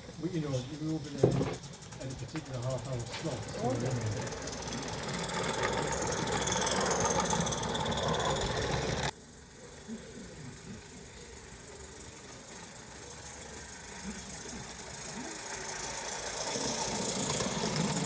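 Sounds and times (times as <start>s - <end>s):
locomotive rumble with hiss: 0.0s - 18.0s.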